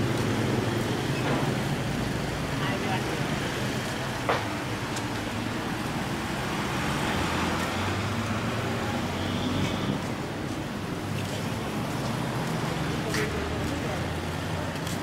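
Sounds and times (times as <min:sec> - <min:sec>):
hum of traffic: 0:00.0 - 0:15.0.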